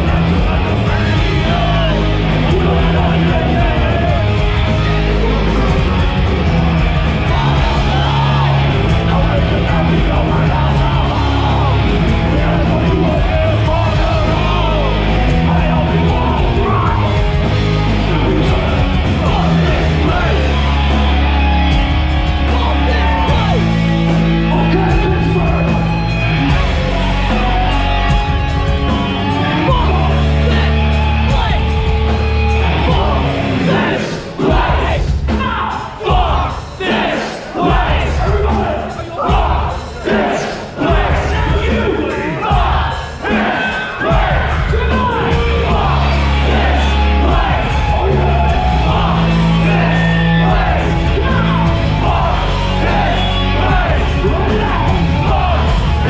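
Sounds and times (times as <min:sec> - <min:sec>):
heavy metal band playing live: 0:00.0 - 0:56.0
yelled vocals: 0:00.0 - 0:56.0.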